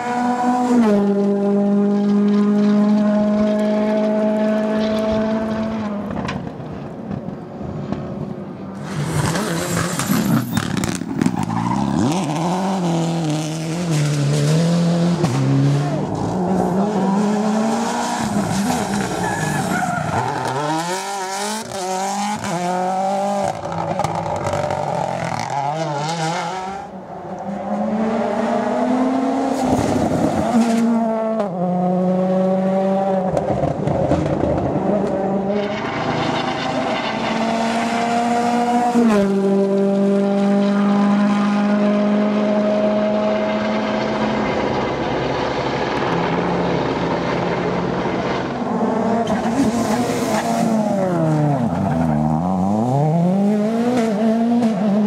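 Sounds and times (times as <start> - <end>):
rally car engines at full throttle: 0.0 - 55.0.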